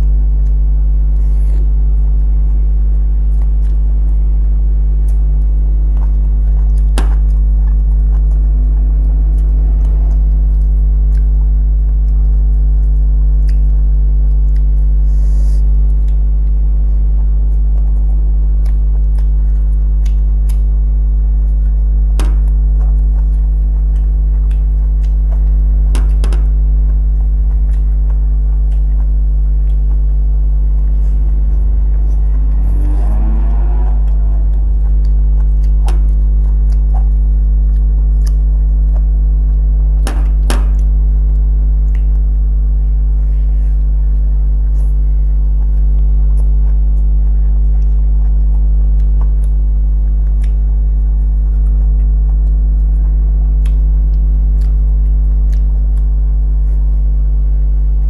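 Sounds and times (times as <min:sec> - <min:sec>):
eating sounds: 0:00.0 - 0:58.0
electrical mains hum: 0:00.0 - 0:58.0.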